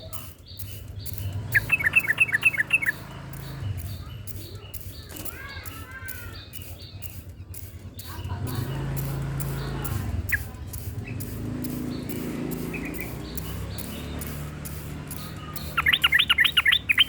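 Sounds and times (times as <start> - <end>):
bulbul chirping: 0.0 - 17.0.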